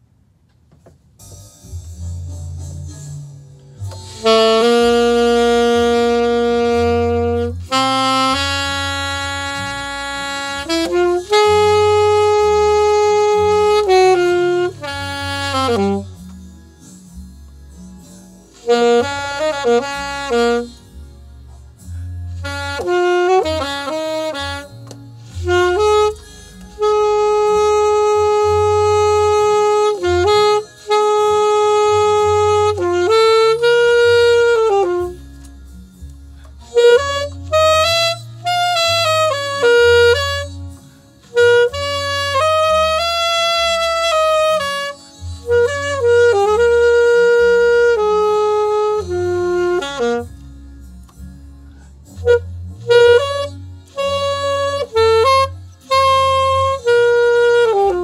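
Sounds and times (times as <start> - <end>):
low bass notes: 1.2 - 58.0
alto saxophone jazzy melody: 3.7 - 58.0.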